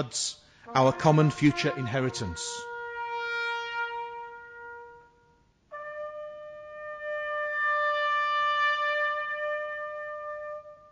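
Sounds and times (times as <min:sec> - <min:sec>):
brass instrument holding note: 0:00.0 - 0:10.9.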